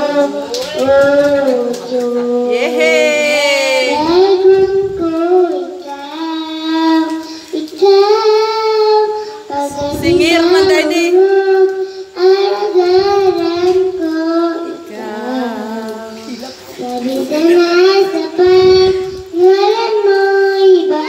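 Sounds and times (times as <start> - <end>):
girl singing into a microphone: 0.0 - 21.0.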